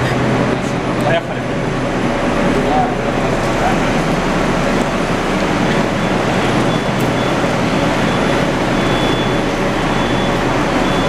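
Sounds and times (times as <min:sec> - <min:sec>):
metro station rumble and hiss: 0:00.0 - 0:11.0.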